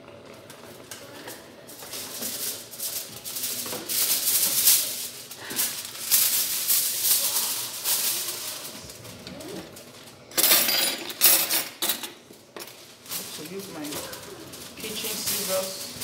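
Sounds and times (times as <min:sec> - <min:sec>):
rustling and shaking: 0:01.1 - 0:12.0, 0:12.6 - 0:16.0.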